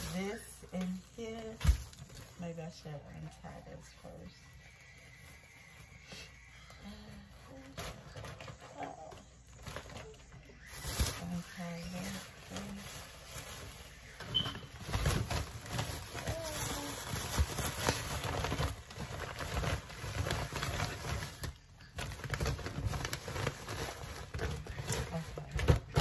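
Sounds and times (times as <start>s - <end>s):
plastic bags rustling and crinkling: 0.0s - 26.0s.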